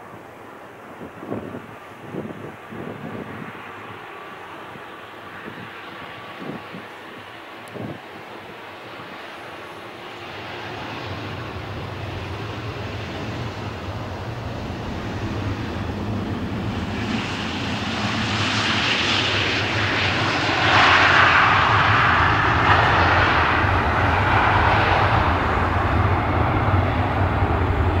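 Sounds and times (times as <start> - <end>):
jet engines roaring: 0.9 - 28.0.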